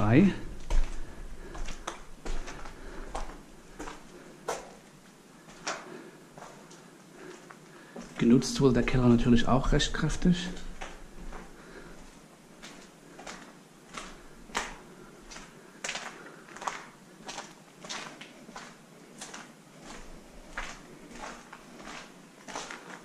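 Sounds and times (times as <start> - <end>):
footsteps walking: 0.0 - 23.0.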